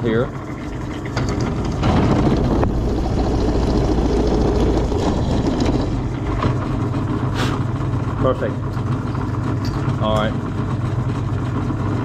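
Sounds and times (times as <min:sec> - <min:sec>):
drill press motor hum: 0:00.0 - 0:12.0.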